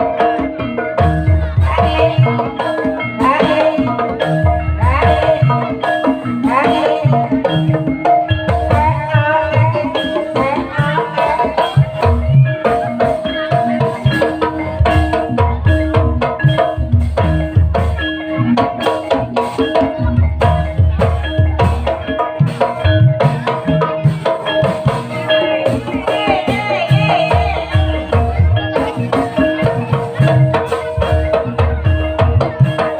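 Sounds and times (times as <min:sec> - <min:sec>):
gamelan metallophone melody: 0:00.0 - 0:32.9
steady drum beats: 0:00.0 - 0:32.9.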